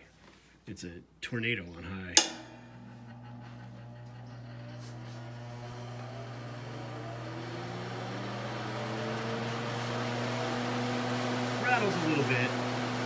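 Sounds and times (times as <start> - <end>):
electric fan motor hum and whine: 2.2 - 13.0.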